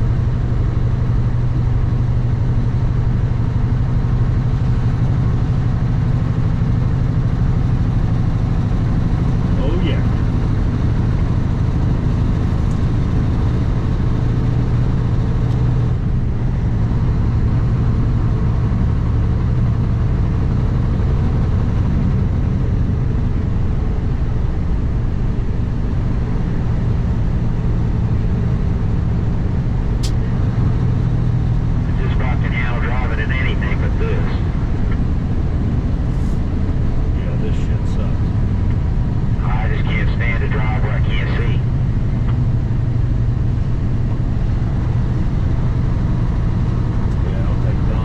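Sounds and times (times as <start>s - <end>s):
diesel truck engine drone: 0.0s - 48.0s.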